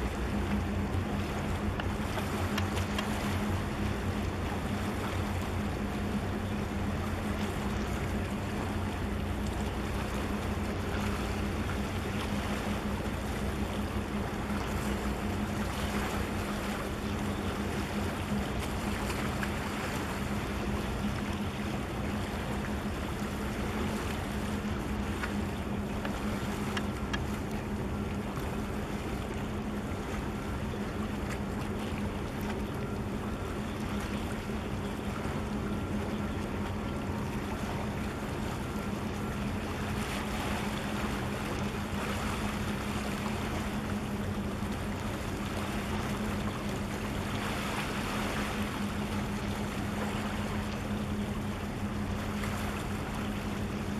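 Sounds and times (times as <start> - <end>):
ship engines droning: 0.0 - 53.9.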